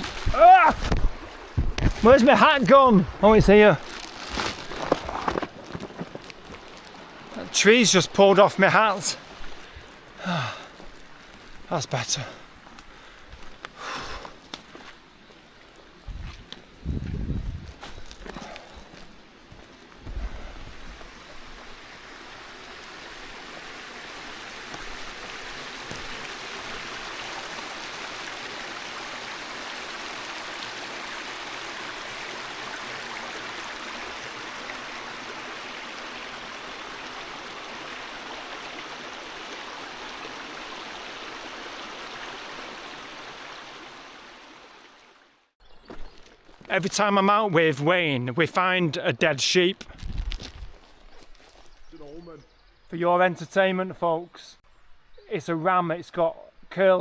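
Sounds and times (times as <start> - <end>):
brook running over stones: 0.0 - 52.0.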